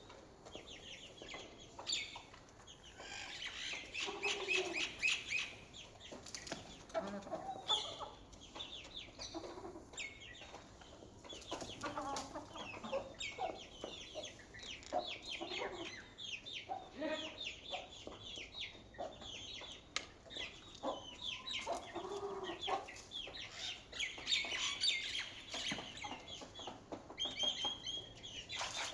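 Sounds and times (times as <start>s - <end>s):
chicks peeping: 0.0s - 28.9s
hen clucking: 0.1s - 28.9s.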